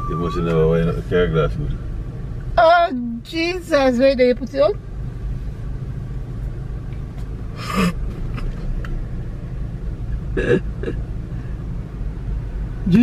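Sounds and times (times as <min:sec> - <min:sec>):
car idling: 0:00.0 - 0:13.0.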